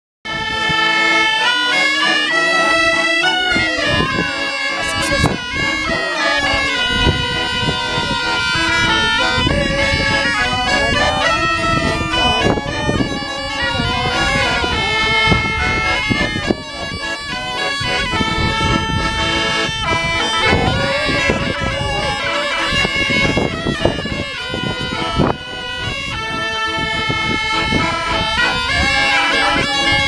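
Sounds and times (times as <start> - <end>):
bagpipes melody over drone: 0.3 - 30.0
button accordion: 0.3 - 30.0.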